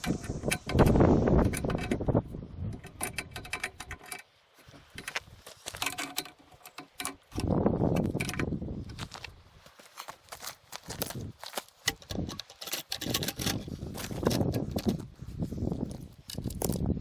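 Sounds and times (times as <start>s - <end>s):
small metallic clicks and rattles: 0.0s - 9.2s, 11.7s - 15.1s, 15.7s - 16.9s.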